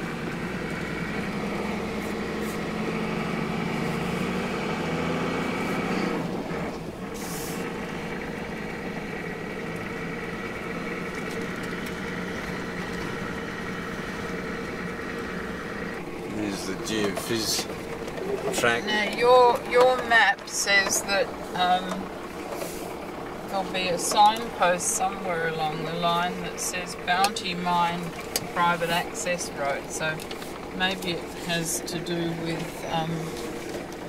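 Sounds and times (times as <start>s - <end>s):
car engine running: 0.0s - 34.0s
tyre and road noise: 0.0s - 34.0s.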